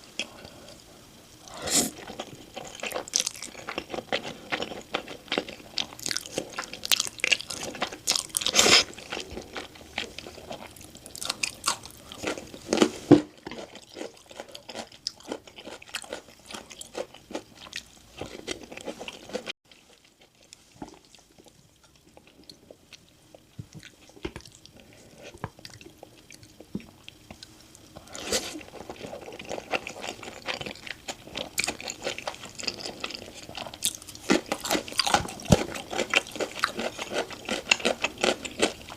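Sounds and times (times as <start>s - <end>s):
crunching and chewing fried chicken: 1.9s - 38.9s.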